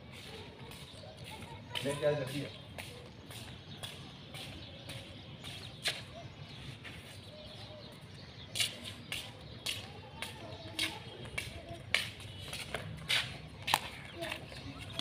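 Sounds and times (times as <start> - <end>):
sandals slapping on tiled floor: 0.1 - 7.3, 8.0 - 15.0.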